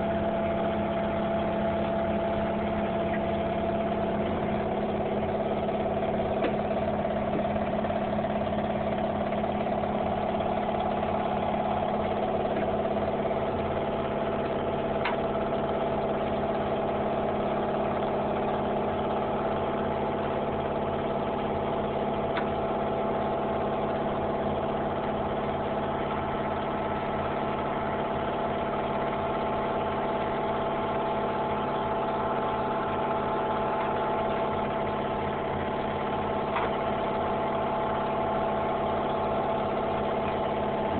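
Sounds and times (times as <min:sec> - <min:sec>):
machine droning: 0:00.0 - 0:40.9.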